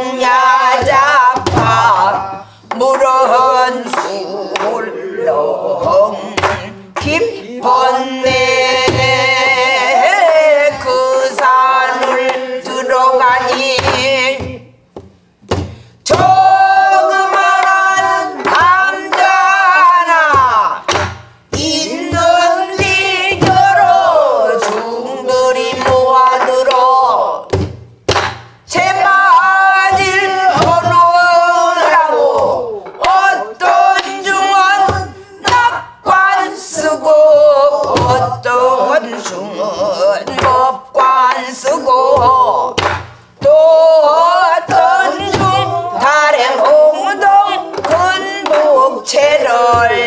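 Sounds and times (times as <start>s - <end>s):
woman singing with vibrato: 0.0s - 27.7s, 28.6s - 50.0s.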